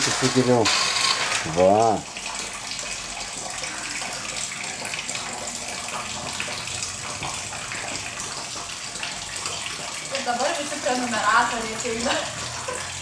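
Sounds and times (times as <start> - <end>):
water dripping into plastic bucket: 1.4 - 12.8.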